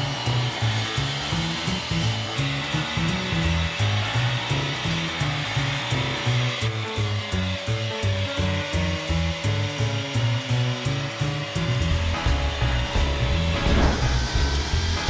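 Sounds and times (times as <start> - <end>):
background music with beat: 0.0 - 15.0
vacuum cleaner motor whirring: 0.0 - 15.0.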